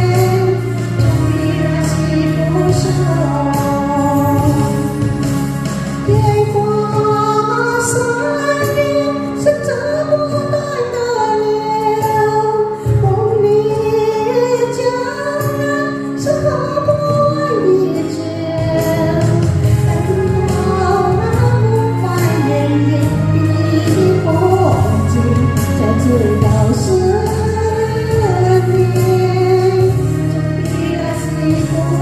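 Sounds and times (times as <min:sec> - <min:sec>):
instrumental accompaniment with bass: 0:00.0 - 0:32.0
woman singing a ballad: 0:00.0 - 0:32.0.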